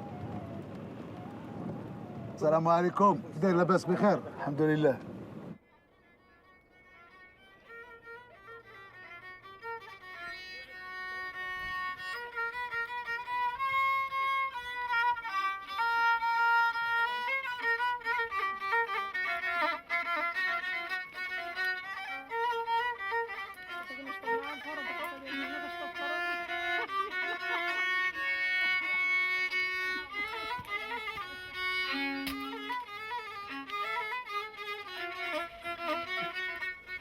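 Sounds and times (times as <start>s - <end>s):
violin melody: 0.0s - 37.0s.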